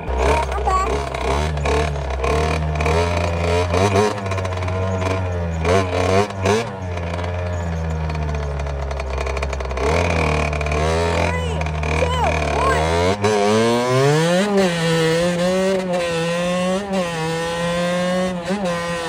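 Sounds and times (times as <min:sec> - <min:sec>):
two-stroke motorbike engine revving: 0:00.0 - 0:19.0.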